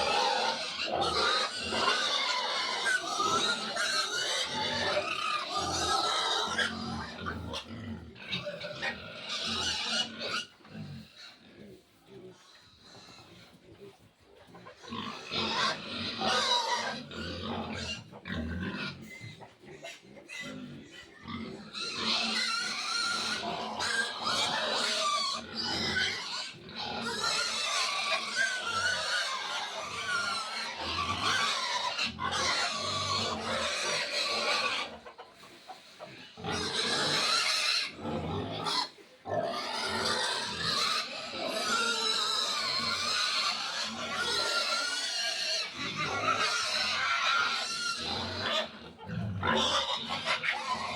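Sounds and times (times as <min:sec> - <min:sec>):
piglets squealing and grunting: 0:00.0 - 0:50.9.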